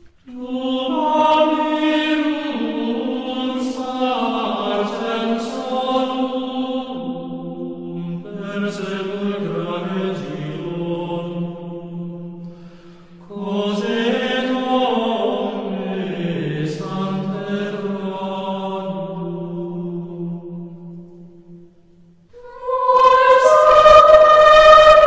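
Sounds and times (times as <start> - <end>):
person singing slow chant: 0.2 - 25.0.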